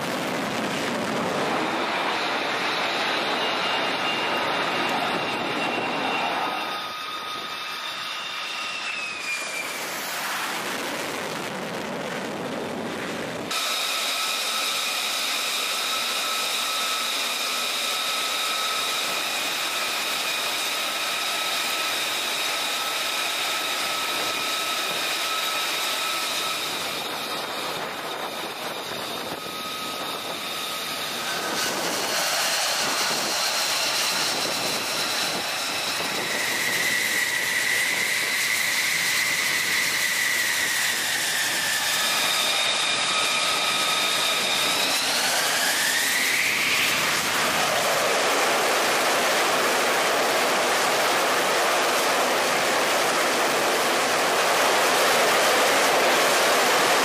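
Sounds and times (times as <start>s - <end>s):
jet engine rushing noise: 0.0s - 57.0s
jet engine whine: 0.0s - 57.0s.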